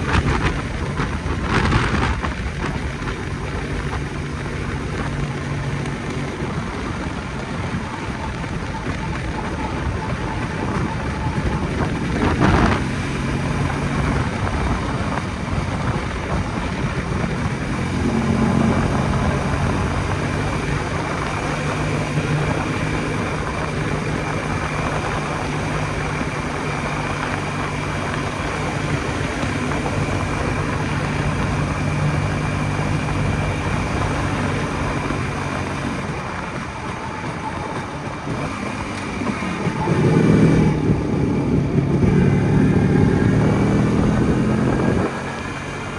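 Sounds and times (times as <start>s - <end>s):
two-stroke motorcycle engine running: 0.0s - 45.9s
wind and road noise: 0.0s - 45.9s.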